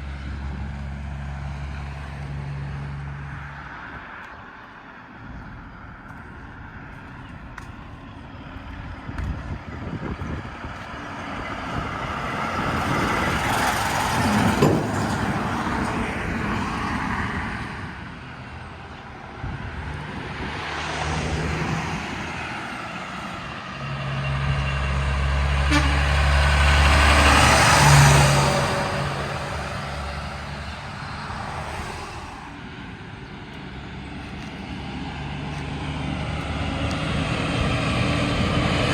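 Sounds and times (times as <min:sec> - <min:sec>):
diesel engine drone: 0:00.0 - 0:38.9
heavy trucks passing: 0:00.0 - 0:38.9.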